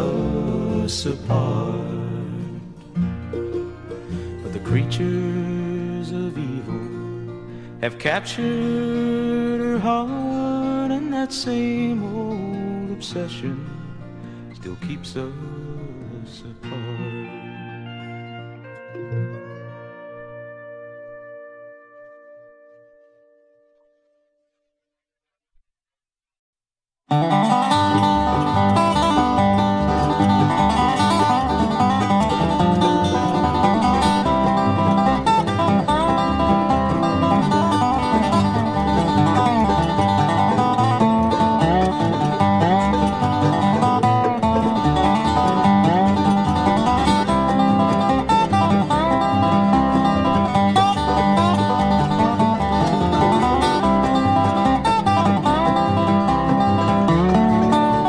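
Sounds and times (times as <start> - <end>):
bass: 0.0 - 22.2, 27.1 - 58.0
banjo picking: 0.0 - 22.8, 27.1 - 58.0
sliding dobro notes: 0.0 - 23.1, 27.1 - 58.0
guitar picking: 0.0 - 24.2, 27.1 - 58.0.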